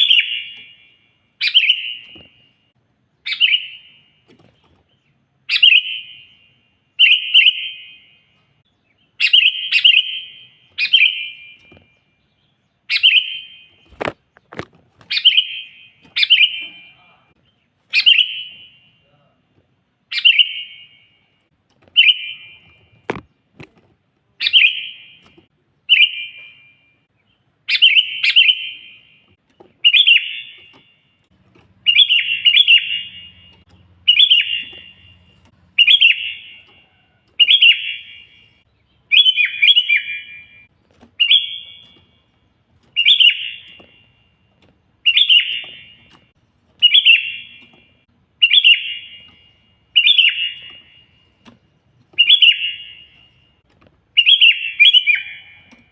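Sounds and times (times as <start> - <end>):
bulbul singing: 0.0 - 23.2, 24.4 - 55.9.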